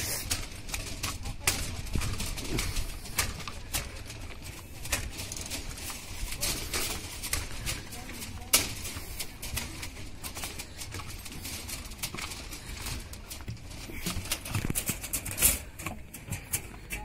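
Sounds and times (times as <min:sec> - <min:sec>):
horse hooves on metal grating: 0:00.0 - 0:17.0.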